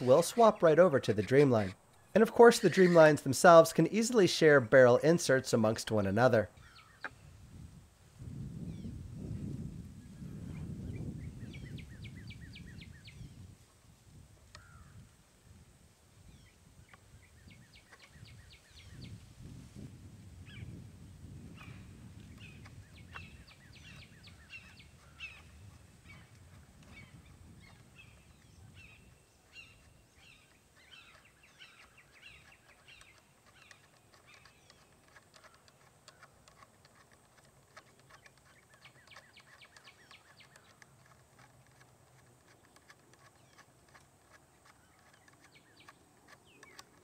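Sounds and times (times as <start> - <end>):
birds chirping: 0.0 - 7.4, 10.0 - 13.5, 16.2 - 19.2, 20.4 - 47.0.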